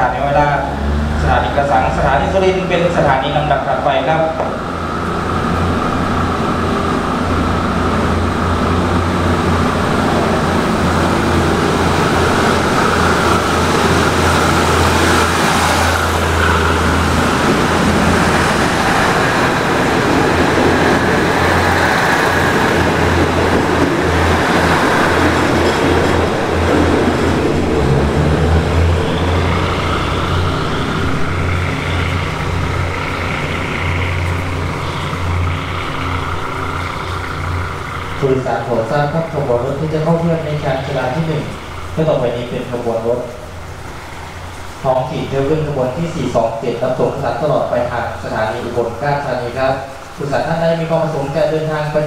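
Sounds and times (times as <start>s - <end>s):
coaches rolling on rails: 0.0s - 52.0s
diesel train engines droning: 0.0s - 52.0s.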